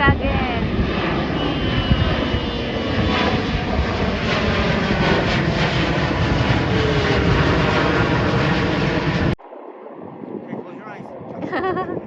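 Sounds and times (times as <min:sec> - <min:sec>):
jet engines running: 0:00.0 - 0:11.5.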